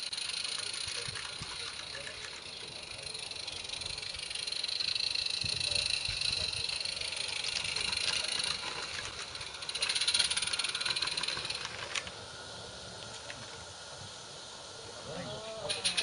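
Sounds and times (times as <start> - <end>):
model steam train running past: 0.0 - 16.0.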